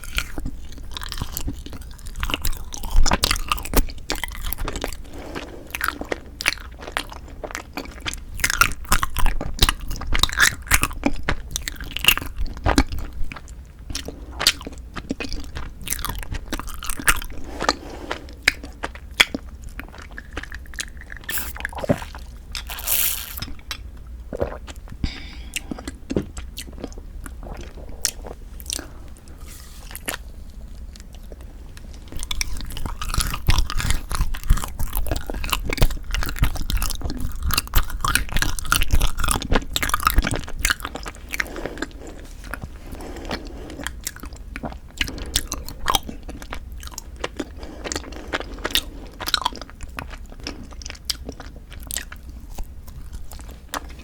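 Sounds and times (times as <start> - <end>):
mouth chewing and crunching: 0.0 - 54.0.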